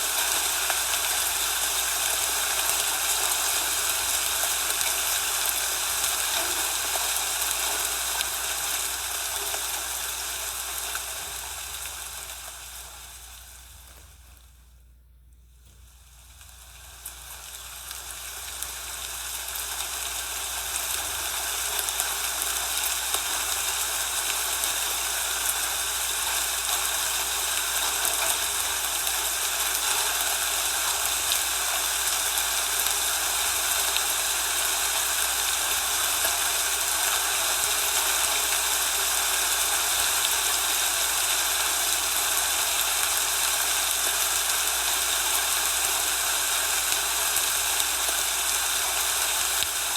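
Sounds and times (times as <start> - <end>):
steady hissing noise: 0.0 - 49.9.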